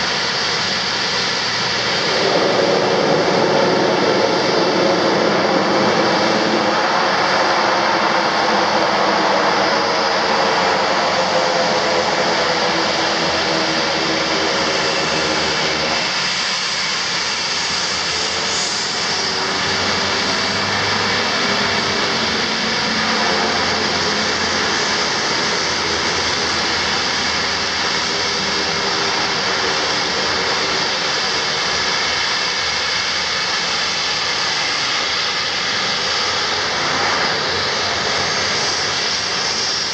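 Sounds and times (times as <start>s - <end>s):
high turbine whine: 0.0s - 39.9s
turboprop propeller drone: 0.0s - 39.9s.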